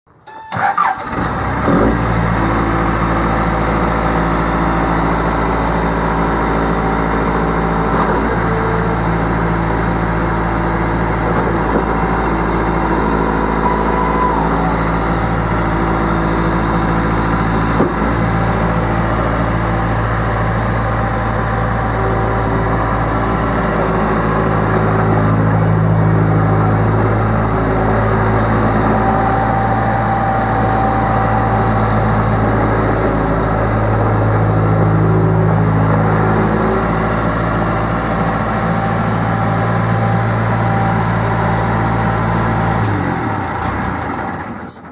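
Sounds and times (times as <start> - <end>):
diesel engine idling: 0.2 - 44.9.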